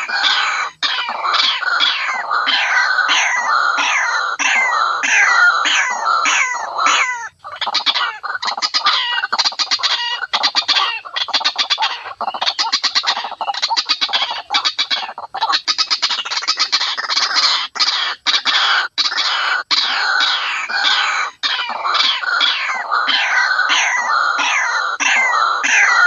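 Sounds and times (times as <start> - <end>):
chattering clicking bird notes: 0.0 - 26.0
waterhen falling calls: 0.0 - 26.0.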